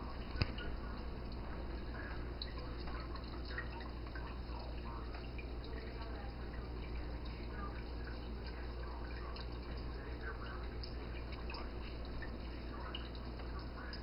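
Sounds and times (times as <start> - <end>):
fountain water trickling and dripping: 0.0 - 14.0
steady low hum: 0.0 - 14.0.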